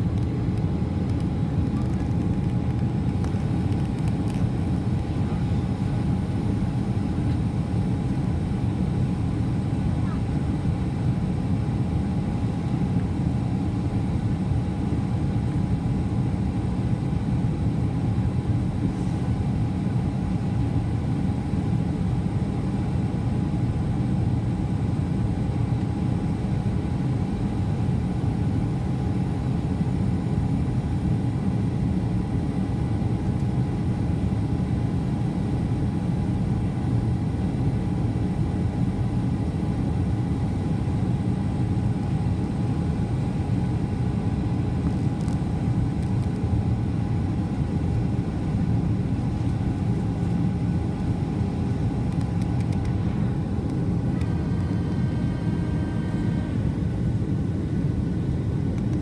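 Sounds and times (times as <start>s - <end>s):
airliner engine and airflow rush: 0.0s - 59.0s.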